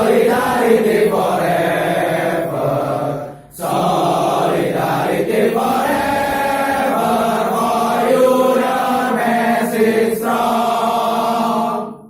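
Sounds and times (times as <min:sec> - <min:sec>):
group singing a march: 0:00.0 - 0:12.0.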